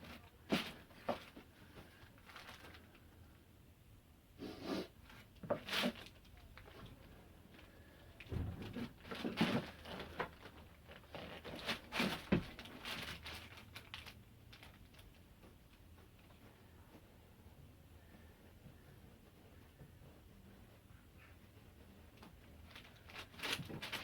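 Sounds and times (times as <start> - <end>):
insulation rustling and crinkling: 0.0 - 3.5, 4.9 - 24.0.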